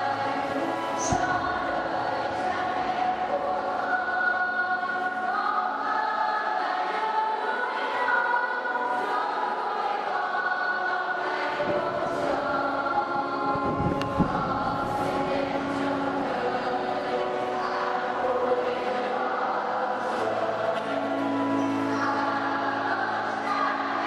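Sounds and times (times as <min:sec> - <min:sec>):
children singing a hymn: 0:00.0 - 0:24.0.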